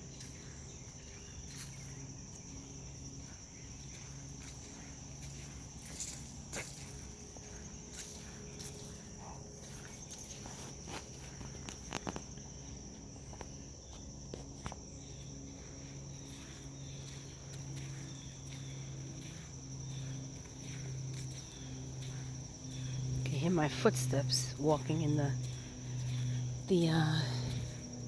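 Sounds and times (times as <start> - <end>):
cricket trill: 0.0 - 28.0
footsteps on sandy path: 0.0 - 28.0.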